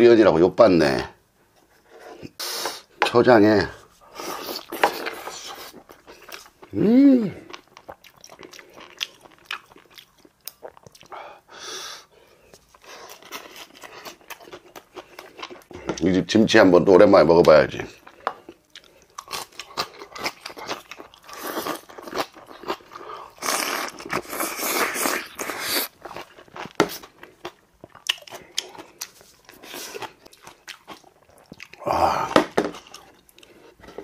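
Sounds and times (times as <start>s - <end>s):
man chewing crunchy food: 4.0s - 16.1s, 17.9s - 34.0s.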